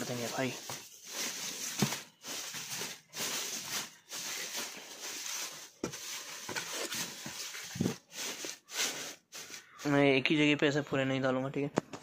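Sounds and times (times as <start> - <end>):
fibre rustling against cardboard: 0.0 - 10.2.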